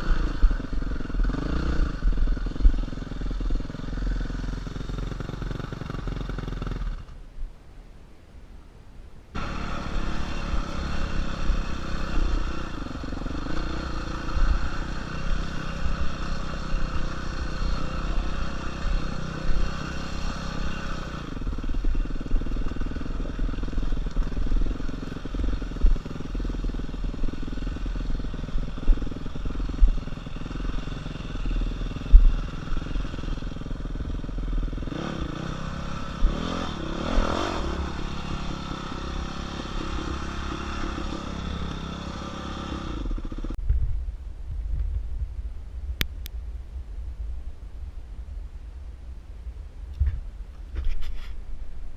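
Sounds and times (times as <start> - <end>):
dirt bike engine running: 0.0 - 7.1, 9.4 - 44.0.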